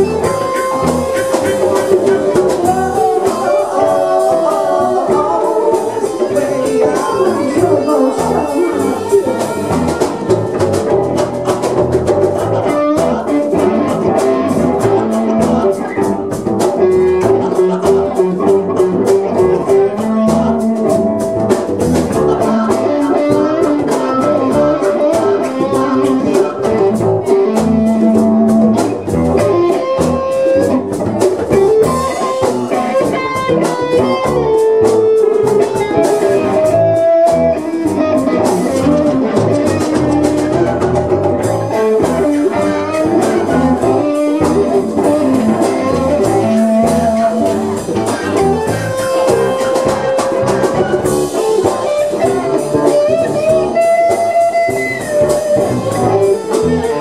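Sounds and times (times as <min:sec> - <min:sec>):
bass guitar: 0:00.0 - 0:57.0
drum kit steady beat: 0:00.0 - 0:57.0
electric guitar gliding notes: 0:00.0 - 0:57.0.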